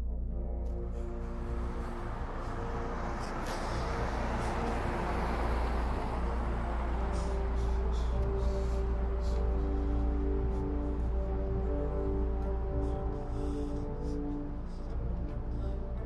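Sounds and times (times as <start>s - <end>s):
passing vehicle road noise: 0.7s - 16.0s.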